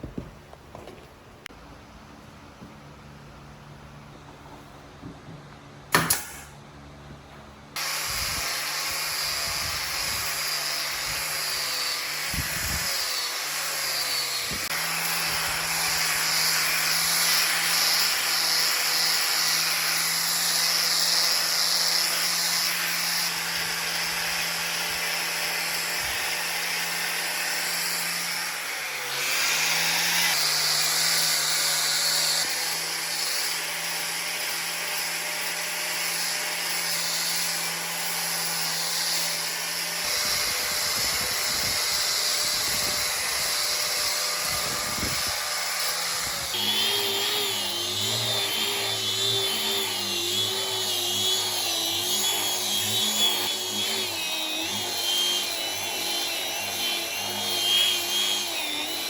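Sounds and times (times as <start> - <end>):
electric power tool motor hum: 7.8 - 59.0.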